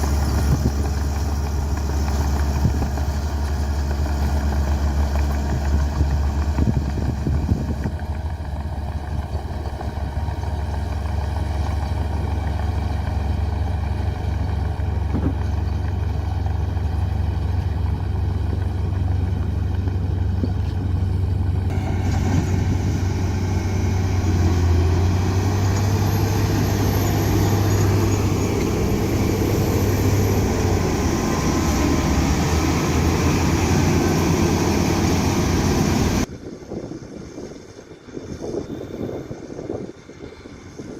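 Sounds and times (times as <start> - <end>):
brighter fuller engine noise: 0.0 - 40.9
bulldozer diesel engine droning: 0.0 - 40.9.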